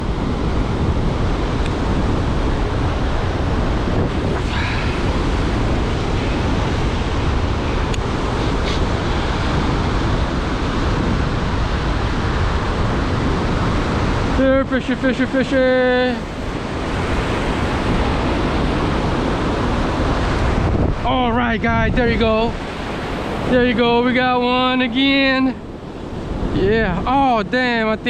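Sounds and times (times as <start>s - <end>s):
surf rushing: 0.0s - 28.0s
wind buffeting microphone: 0.0s - 28.0s.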